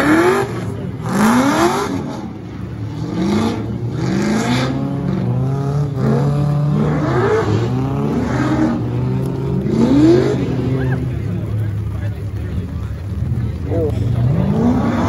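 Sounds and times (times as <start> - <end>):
car engines revving: 0.0 - 15.0
engine holding steady revs: 0.0 - 15.0.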